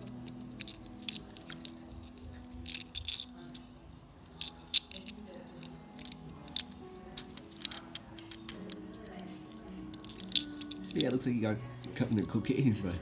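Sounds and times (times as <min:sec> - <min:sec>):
metal toy clicking and rattling: 0:00.0 - 0:12.4.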